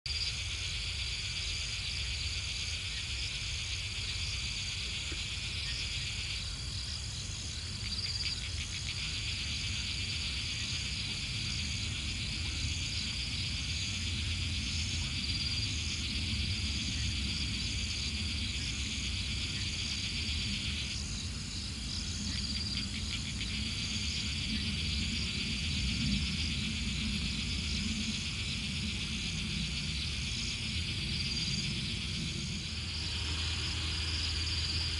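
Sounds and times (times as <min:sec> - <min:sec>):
insects trilling: 0:00.1 - 0:34.9
low background rumble: 0:01.1 - 0:34.9.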